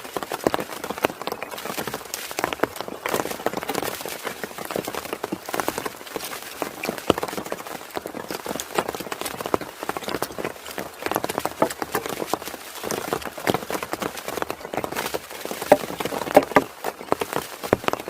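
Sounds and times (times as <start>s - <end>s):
rain pattering on hard surface: 0.0s - 18.0s.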